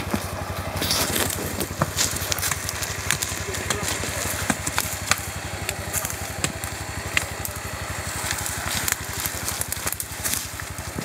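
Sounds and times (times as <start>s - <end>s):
atv engine idling: 0.0s - 11.0s
twigs crackling under footsteps: 0.0s - 11.0s.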